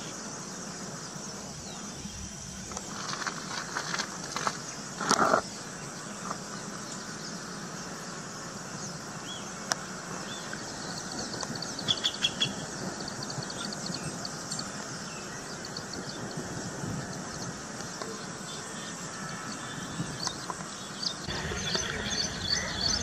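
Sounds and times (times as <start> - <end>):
background hiss: 0.0 - 23.0
small birds chirping: 0.0 - 23.0.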